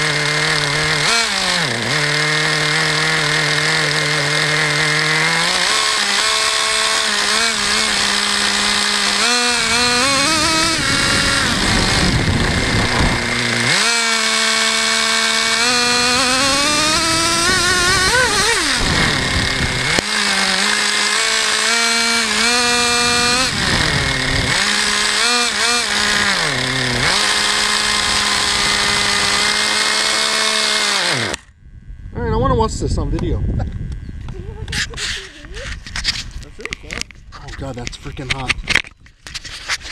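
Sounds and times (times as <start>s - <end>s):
small nitro engine revving: 0.0s - 37.1s.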